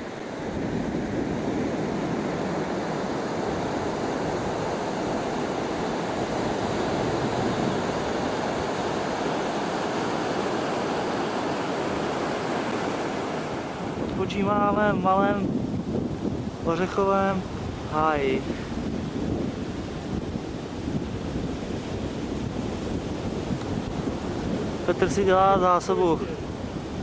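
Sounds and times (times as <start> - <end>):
surf breaking on beach: 0.0 - 27.0
wind rumble on microphone: 0.0 - 27.0.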